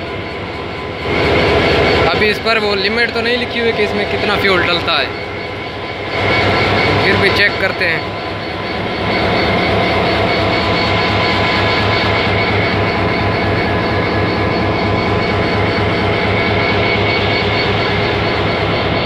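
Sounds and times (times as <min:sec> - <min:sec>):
diesel locomotive engine idling: 0:00.0 - 0:19.0.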